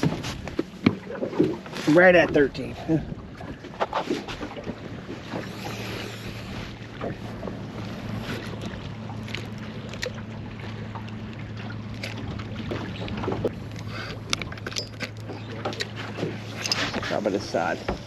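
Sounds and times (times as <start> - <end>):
boat engine hum: 0.0 - 18.0.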